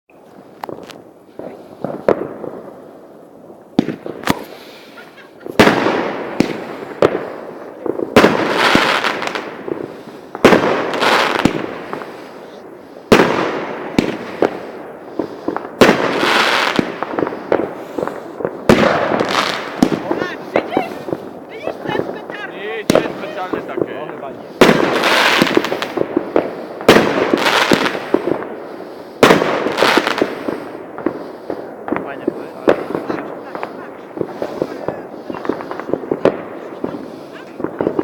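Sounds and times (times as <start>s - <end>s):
fireworks bangs with crackling: 0.1s - 38.0s.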